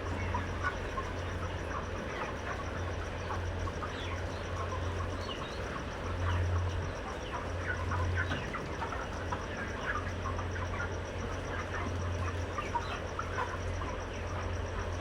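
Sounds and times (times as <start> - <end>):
chickens chirping and clucking: 0.0 - 15.0
steady low hum: 0.0 - 15.0.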